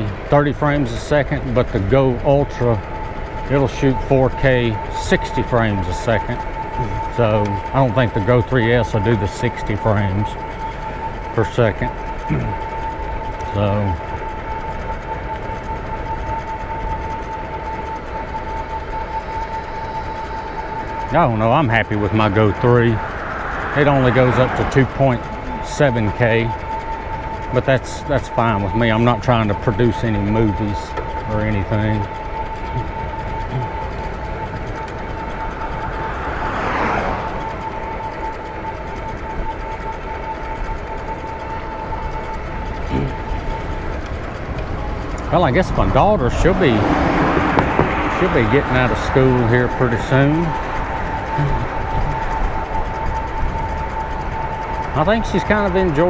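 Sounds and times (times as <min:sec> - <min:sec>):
electric bike motor whining: 0:00.0 - 0:56.0
wind and road rumble: 0:00.0 - 0:56.0.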